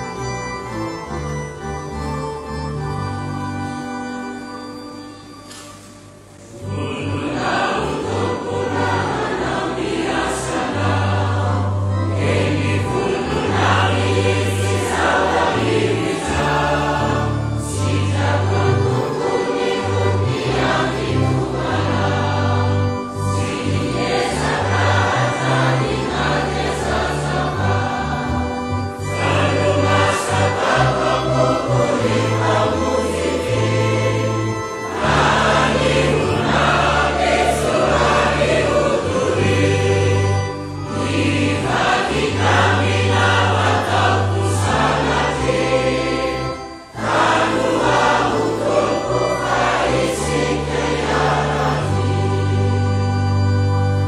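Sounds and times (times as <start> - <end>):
instrumental backing with bass: 0.0 - 54.0
choir singing a hymn: 6.4 - 54.0.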